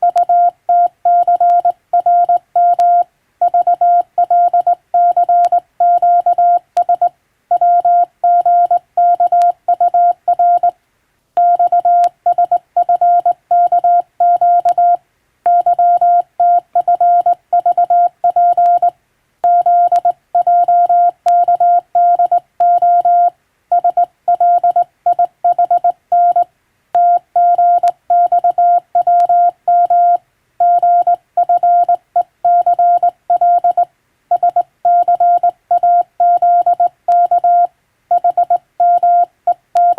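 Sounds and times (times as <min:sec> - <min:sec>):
morse code tone: 0:00.0 - 0:10.7, 0:11.4 - 0:39.9.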